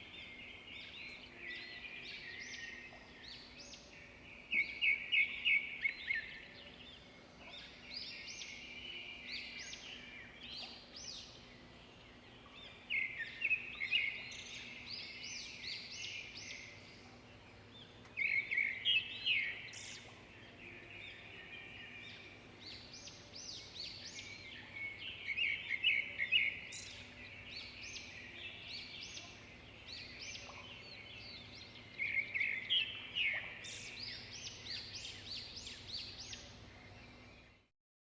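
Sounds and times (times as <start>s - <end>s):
small birds chirping and singing: 0.0s - 37.7s.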